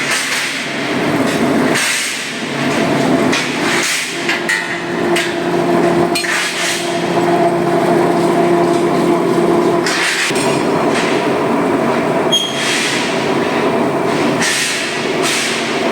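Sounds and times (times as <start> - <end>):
industrial machinery din: 0.0 - 15.9
steady hum: 0.7 - 15.9.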